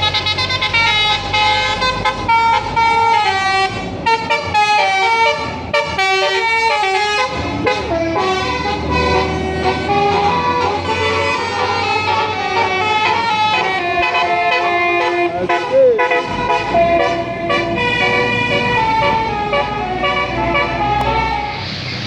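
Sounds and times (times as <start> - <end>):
musical air horn playing a tune: 0.0 - 21.6
bus engine running: 0.0 - 22.0.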